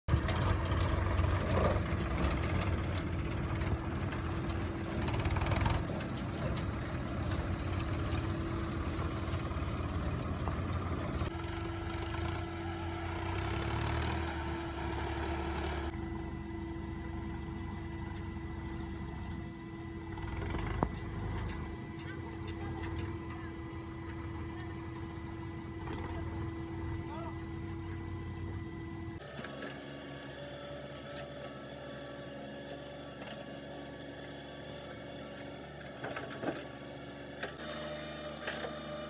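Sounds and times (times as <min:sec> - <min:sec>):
diesel engines droning: 0:00.1 - 0:39.0.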